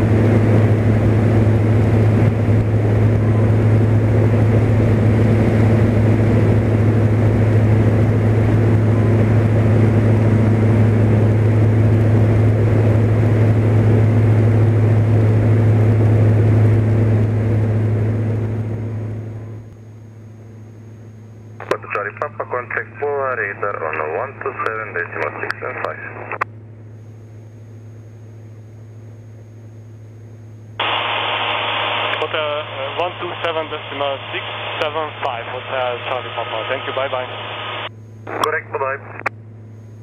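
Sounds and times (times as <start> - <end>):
propeller plane engine: 0.0 - 40.0.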